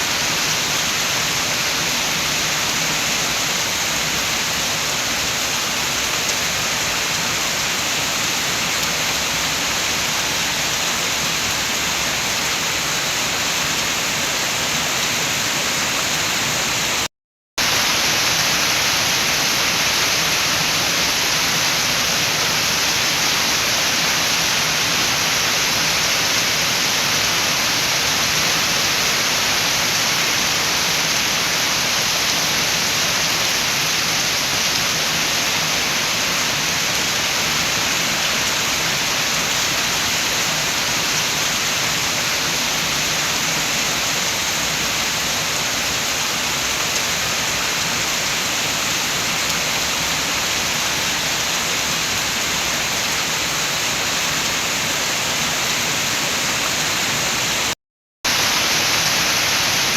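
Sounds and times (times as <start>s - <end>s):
rain falling with wind: 0.0s - 59.9s.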